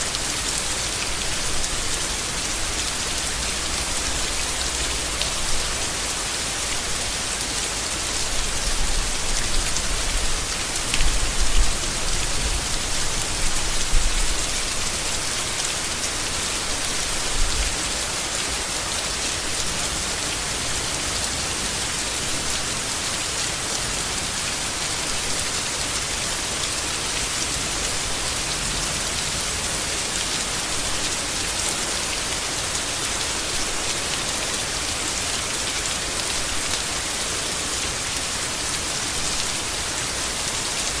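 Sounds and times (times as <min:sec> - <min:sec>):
heavy rain on leaves: 0:00.0 - 0:41.0.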